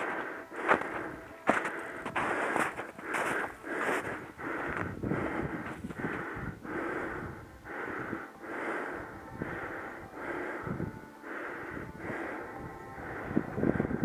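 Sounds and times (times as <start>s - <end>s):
heavy breathing: 0.0s - 14.0s.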